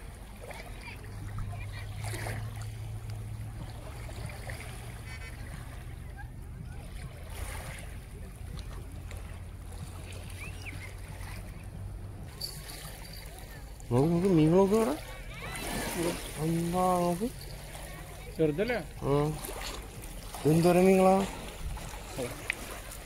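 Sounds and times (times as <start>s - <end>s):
small waves lapping on rocks: 0.0s - 23.0s.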